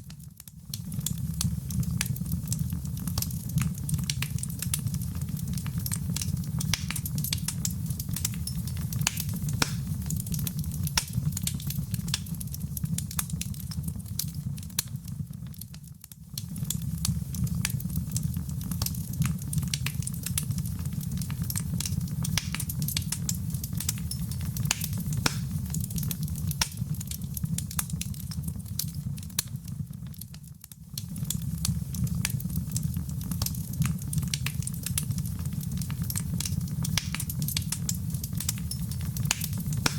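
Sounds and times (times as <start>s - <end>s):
fire crackling and popping: 0.0s - 39.9s
wood fire rumbling: 0.2s - 39.9s.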